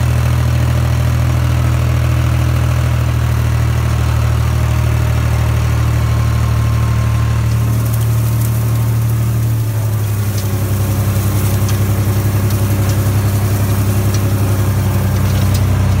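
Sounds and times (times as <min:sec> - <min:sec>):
tractor engine running under load: 0:00.0 - 0:16.0.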